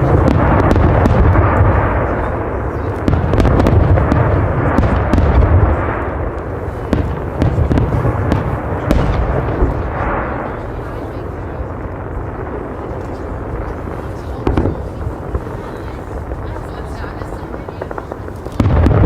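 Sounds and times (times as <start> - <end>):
fireworks booms: 0.0 - 19.0
fireworks sharp cracks: 0.0 - 19.0.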